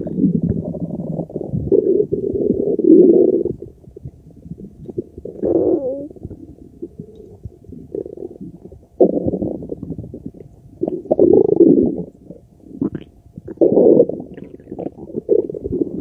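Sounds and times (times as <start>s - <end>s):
stomach gurgling and rumbling: 0.0s - 16.0s.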